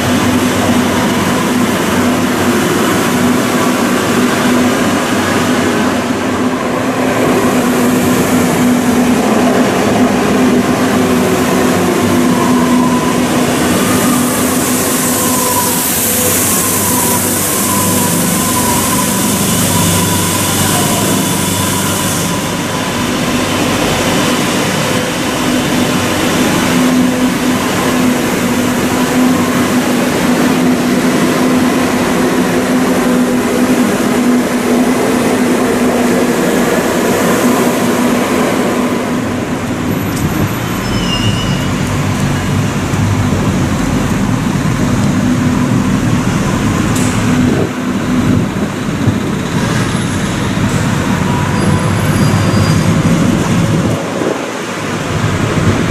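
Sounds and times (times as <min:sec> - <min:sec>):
train motors humming: 0:00.0 - 0:55.9
wheels rumbling on rail: 0:00.0 - 0:55.9.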